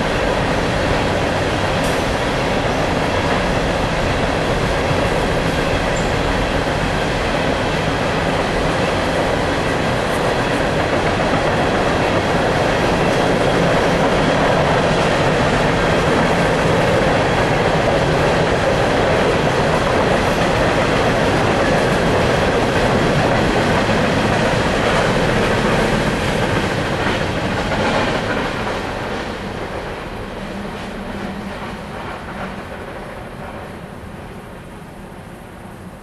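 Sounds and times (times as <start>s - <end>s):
freight train wheels on rails: 0.0s - 36.0s.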